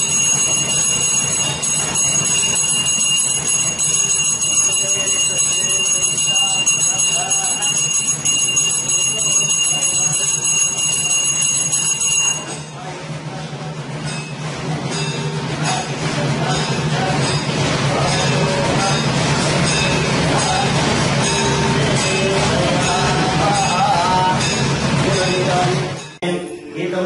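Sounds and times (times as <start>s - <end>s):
brass hand bell ringing: 0.0s - 12.8s, 14.1s - 26.7s.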